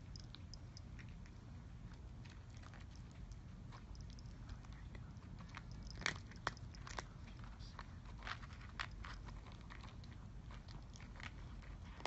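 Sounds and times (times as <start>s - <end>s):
cat crunching dry food: 0.0s - 12.0s
low steady rumble: 0.0s - 12.0s.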